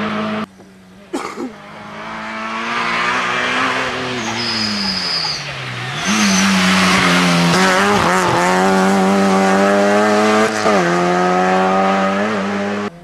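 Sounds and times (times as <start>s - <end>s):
rally car engine at high revs: 0.0s - 0.5s, 1.4s - 13.0s.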